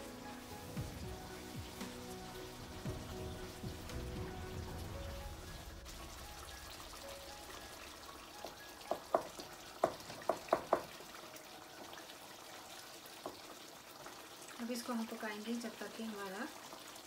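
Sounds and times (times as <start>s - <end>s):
gravy frying and bubbling: 0.0s - 17.0s.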